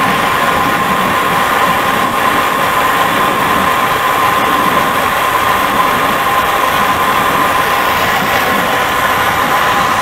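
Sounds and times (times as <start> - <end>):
high whine: 0.0 - 10.0.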